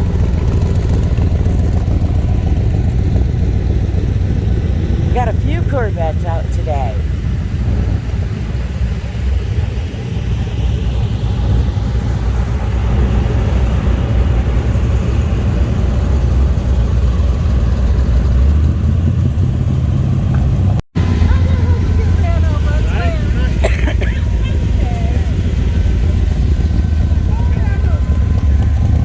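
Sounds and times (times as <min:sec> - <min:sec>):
cars rolling past: 0:00.0 - 0:29.0.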